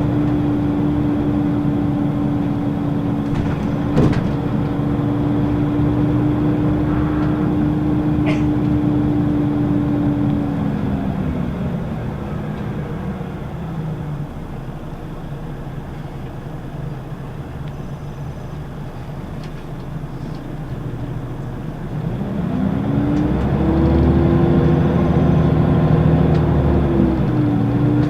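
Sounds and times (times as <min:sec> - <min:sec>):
bus diesel engine from inside: 0:00.0 - 0:28.0.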